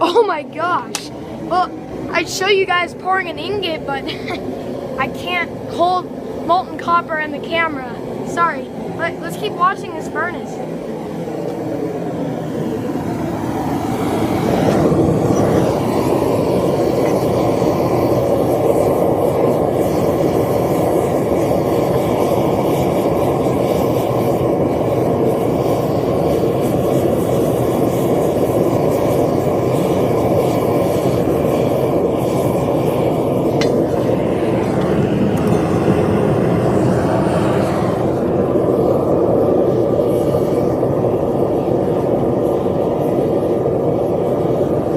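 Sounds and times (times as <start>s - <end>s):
propane torch roaring: 0.0s - 44.9s.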